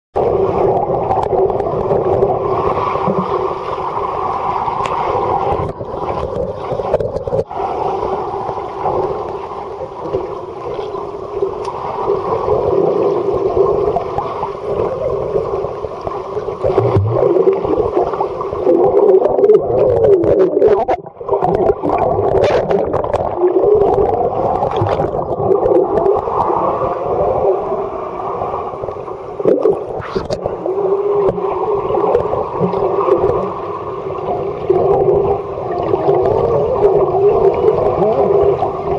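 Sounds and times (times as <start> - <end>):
underwater churning and bubbling: 0.2 - 38.9.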